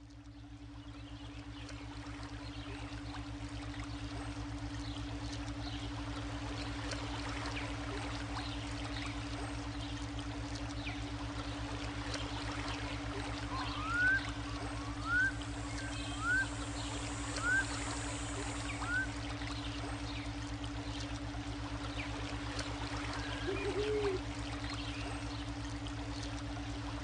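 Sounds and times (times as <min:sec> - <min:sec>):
steady low drone: 0:00.0 - 0:27.0
water trickling and bubbling: 0:00.0 - 0:27.0.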